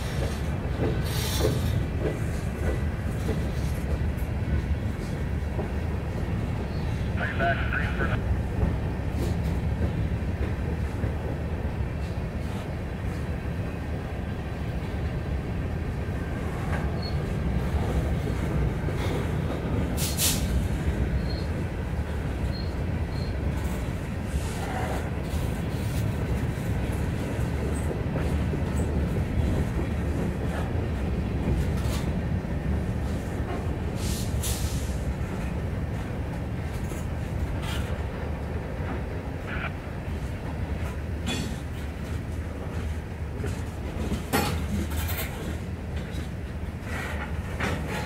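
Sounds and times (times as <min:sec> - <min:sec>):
train cars clanking: 0:00.0 - 0:48.0
train wheels rumbling on rails: 0:00.0 - 0:48.0.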